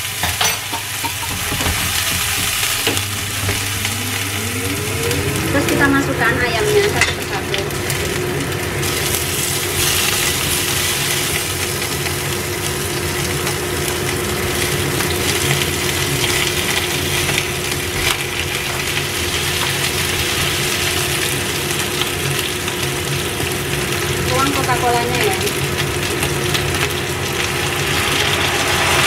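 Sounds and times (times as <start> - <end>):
chicken sizzling in hot oil: 0.0 - 29.0
steady hum: 0.4 - 25.7.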